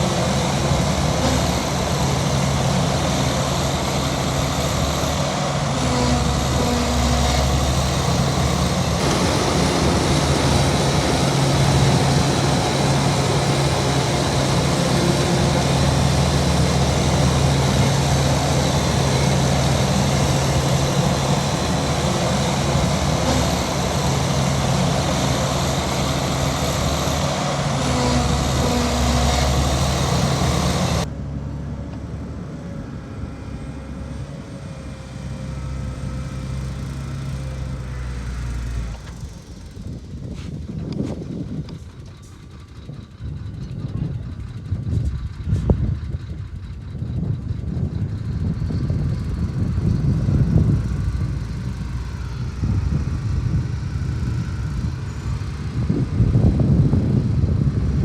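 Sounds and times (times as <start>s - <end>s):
diesel machinery engine droning: 0.0s - 58.0s.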